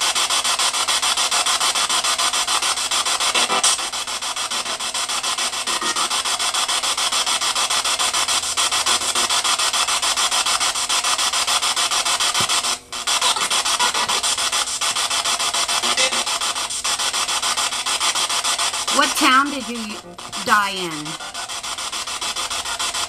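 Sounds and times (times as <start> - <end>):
pulsing radio static: 0.0 - 23.0.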